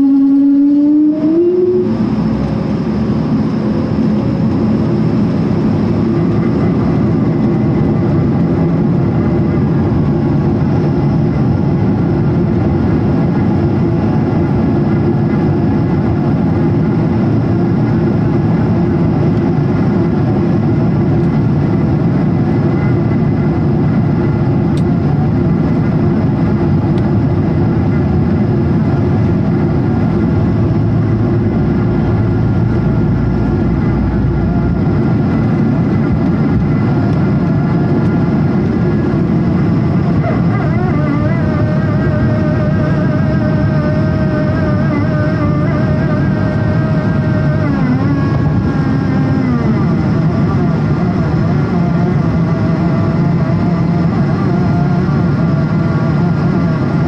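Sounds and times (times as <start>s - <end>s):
aircraft engines humming: 0.0s - 57.0s
faint steady whines: 0.0s - 57.0s.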